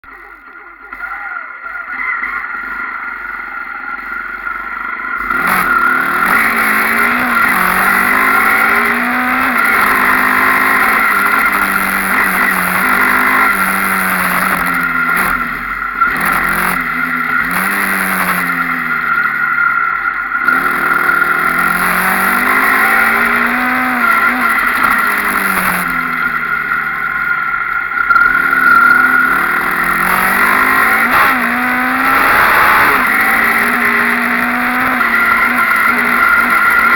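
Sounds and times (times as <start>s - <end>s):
dirt bike engine revving: 0.0s - 36.9s.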